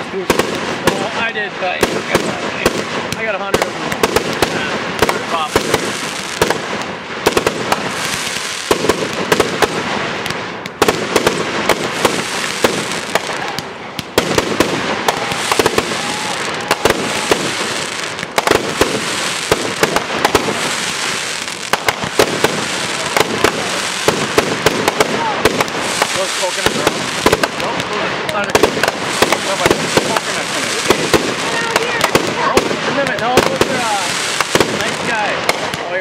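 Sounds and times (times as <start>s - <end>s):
fireworks popping and banging: 0.0s - 36.0s.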